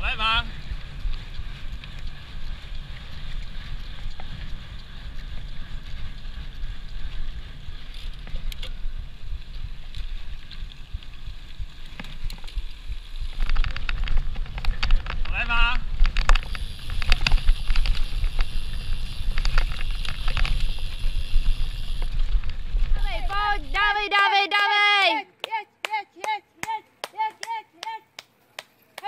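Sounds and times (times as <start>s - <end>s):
tyre rumble on paved road: 0.0s - 24.0s
bike rattling clicks: 0.4s - 24.1s.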